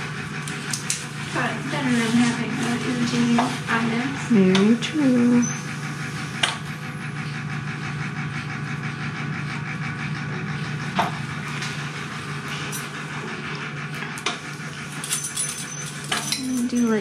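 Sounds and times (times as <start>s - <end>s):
pulsing mechanical hum: 0.0s - 17.0s.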